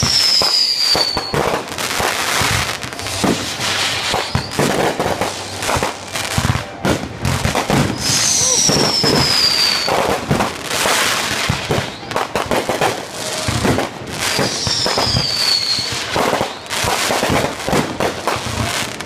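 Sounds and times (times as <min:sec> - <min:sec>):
falling firework whistle: 0:00.0 - 0:01.7, 0:02.4 - 0:05.9, 0:07.6 - 0:17.9
fireworks bangs and crackling: 0:00.0 - 0:19.0.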